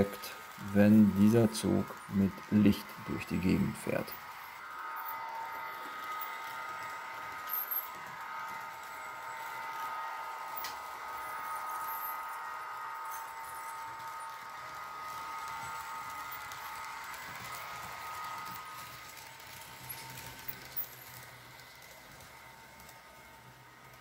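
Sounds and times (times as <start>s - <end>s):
wheels rolling rattle: 0.0s - 9.8s, 10.4s - 12.4s, 13.0s - 24.0s
model train motor whine: 0.0s - 24.0s.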